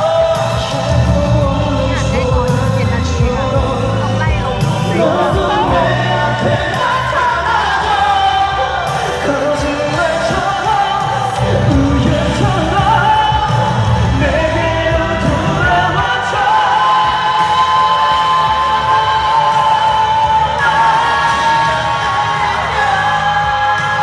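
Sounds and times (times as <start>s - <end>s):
band accompaniment: 0.0s - 24.0s
men singing pop song: 0.0s - 24.0s.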